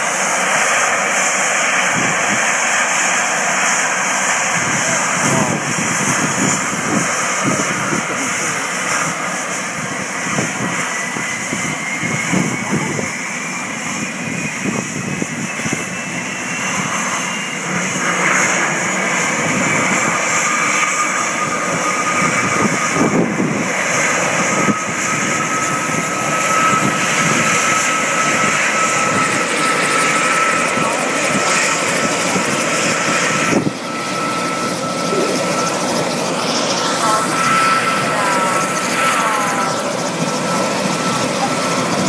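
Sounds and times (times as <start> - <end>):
helicopter turbine engines whining: 0.0 - 42.0.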